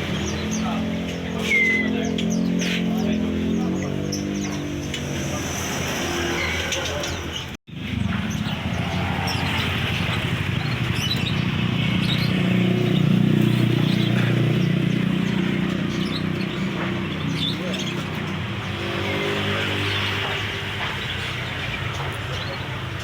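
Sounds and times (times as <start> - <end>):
road traffic: 0.0 - 23.0
songbirds chirping: 0.0 - 23.0.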